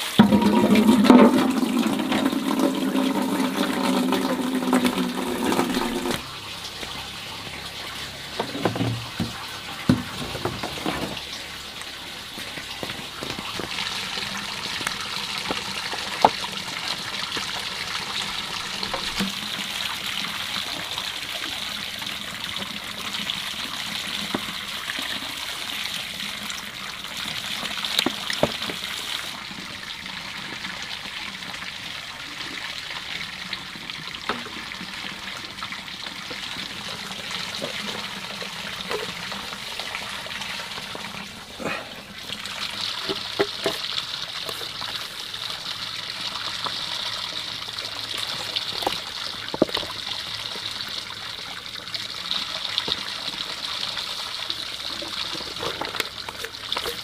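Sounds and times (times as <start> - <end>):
water running and trickling: 0.0 - 57.0.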